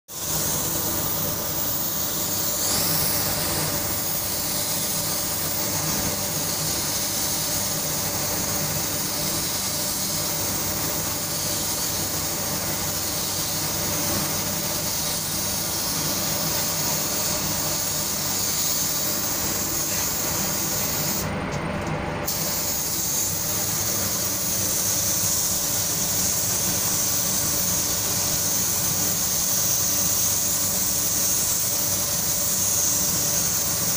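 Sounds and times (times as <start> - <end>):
paint spray gun hissing: 0.1 - 21.3, 22.2 - 33.9.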